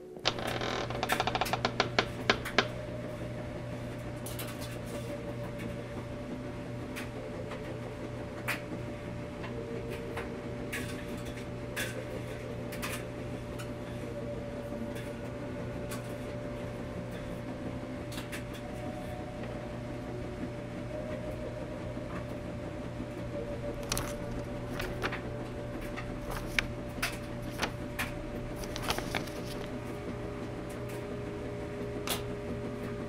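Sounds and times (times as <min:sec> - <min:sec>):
laundry machines humming: 0:00.0 - 0:33.0.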